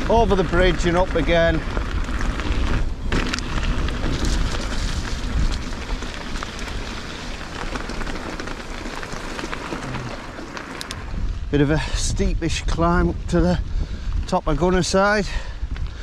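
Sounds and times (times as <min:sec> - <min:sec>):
bike tyres rolling over stones: 0:00.0 - 0:16.0
wind buffeting microphone: 0:00.0 - 0:16.0.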